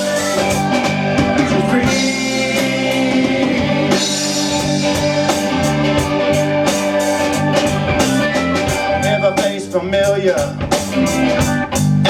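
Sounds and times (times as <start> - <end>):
drum kit beat: 0.0 - 12.0
guitars: 0.0 - 12.0.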